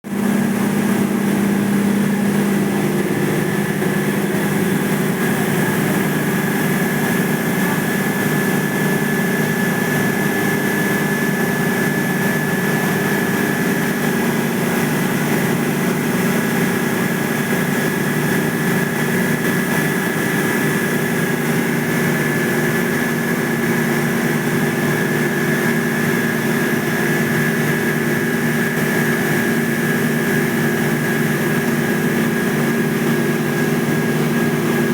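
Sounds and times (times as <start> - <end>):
condensing unit humming: 0.0 - 34.9
fan noise: 0.0 - 34.9
high whine: 0.0 - 34.9.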